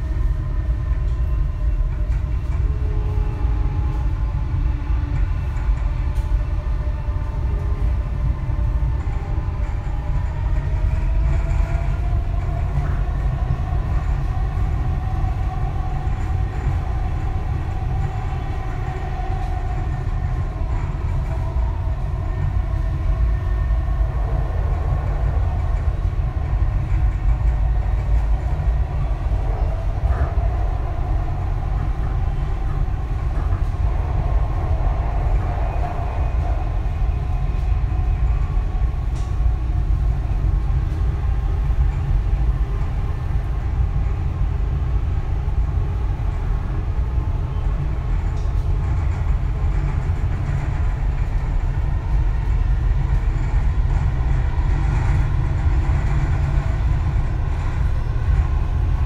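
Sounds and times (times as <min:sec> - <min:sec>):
train rumbling at speed: 0:00.0 - 0:59.0
wavering train whine: 0:00.0 - 0:59.0.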